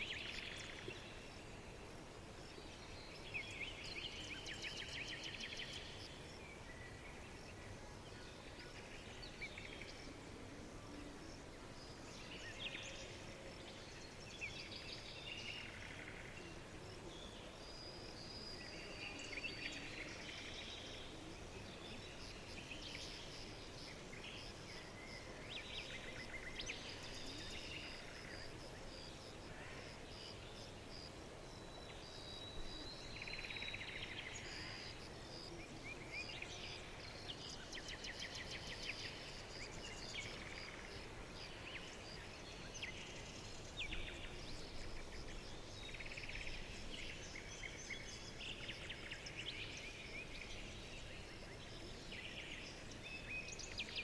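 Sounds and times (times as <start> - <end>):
songbirds chirping and trilling: 0.0 - 54.0
steady hiss: 0.0 - 54.0.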